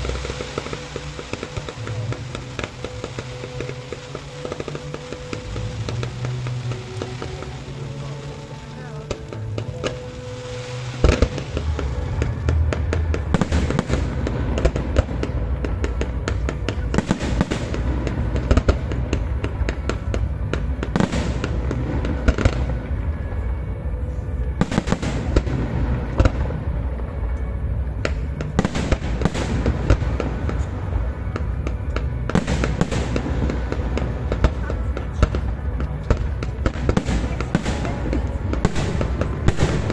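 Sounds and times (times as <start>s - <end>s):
fireworks bangs and crackling: 0.0s - 39.9s
low rumble: 0.0s - 39.9s
music playing: 0.0s - 39.9s.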